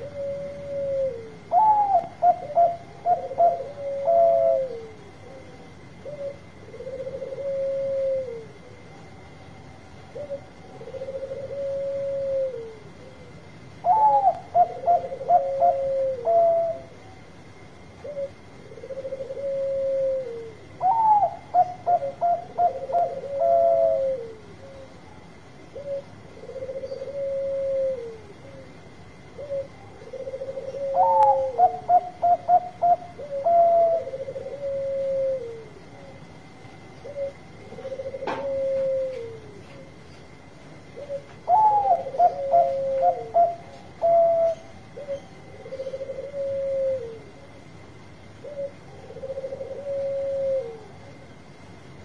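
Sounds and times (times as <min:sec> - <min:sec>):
dove cooing: 0:00.0 - 0:51.4.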